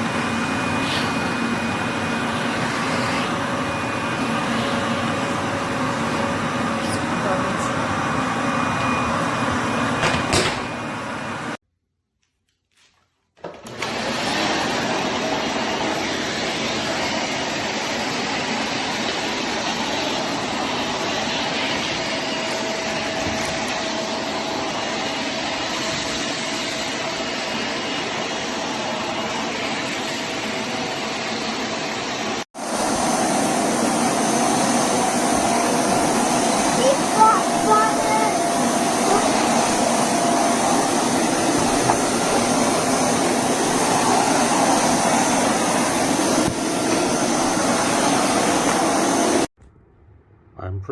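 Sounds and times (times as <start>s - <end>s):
vacuum cleaner running: 0.0s - 11.6s, 13.4s - 49.6s.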